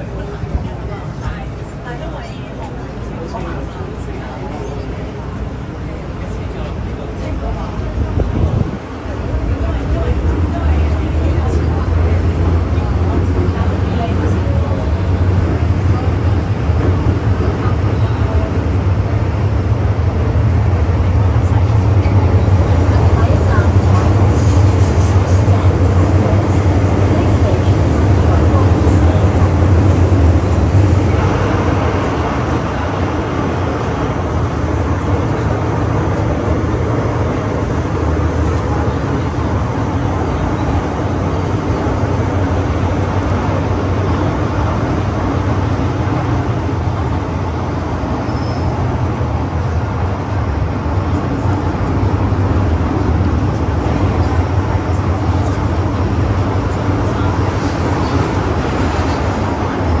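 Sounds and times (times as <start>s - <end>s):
train rumbling on track: 0.0s - 60.0s.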